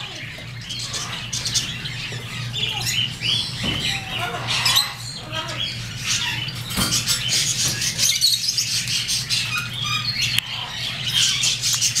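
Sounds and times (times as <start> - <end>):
parrot chirping: 0.0 - 12.0.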